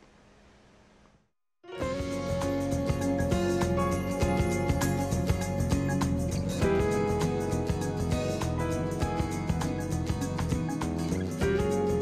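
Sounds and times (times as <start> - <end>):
background music with steady beat: 1.7 - 12.0.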